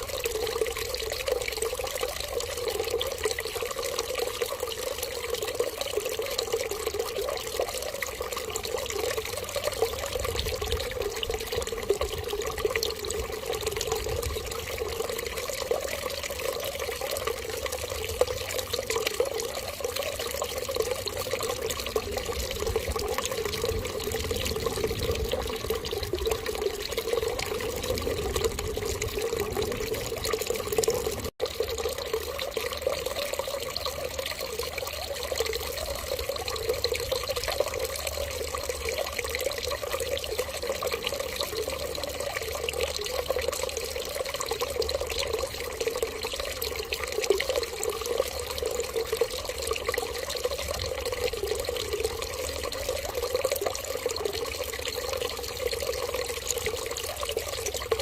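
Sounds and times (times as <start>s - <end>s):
water running steadily: 0.0s - 58.0s.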